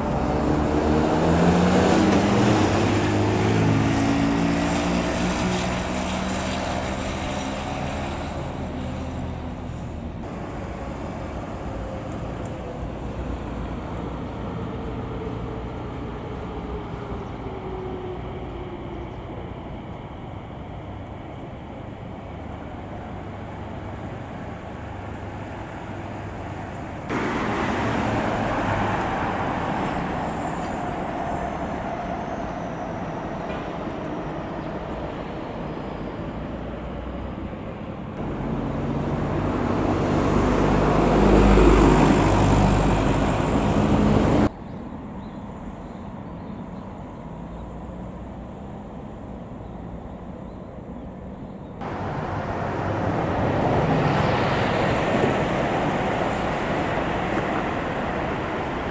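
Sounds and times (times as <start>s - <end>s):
electric trains rumbling past: 0.0s - 58.9s.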